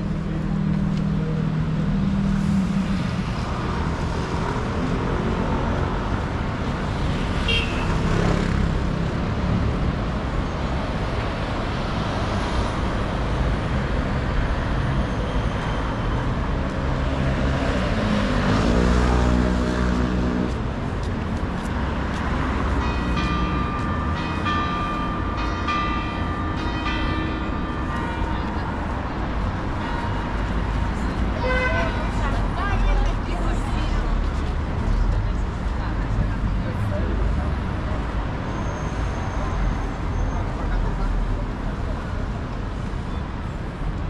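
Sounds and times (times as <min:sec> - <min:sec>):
rumble of passing traffic: 0:00.0 - 0:44.0.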